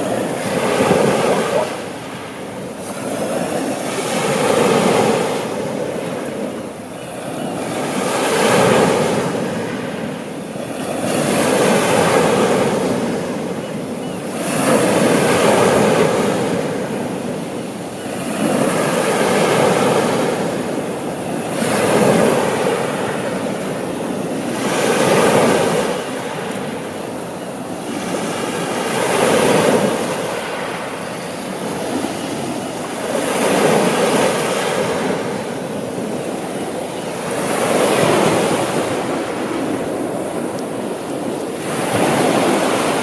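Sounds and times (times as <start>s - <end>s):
sea waves washing onto shore: 0.0s - 43.0s.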